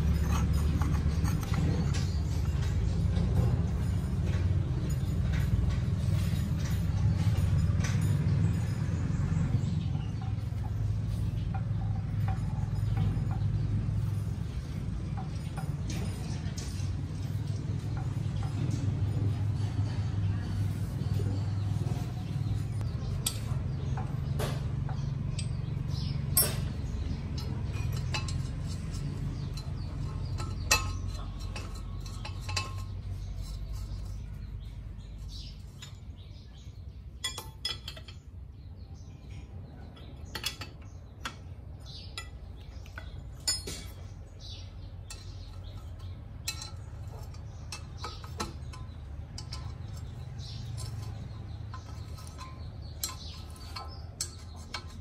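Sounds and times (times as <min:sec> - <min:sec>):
spanner and bolts clinking: 0:00.0 - 0:38.4, 0:39.3 - 0:55.0.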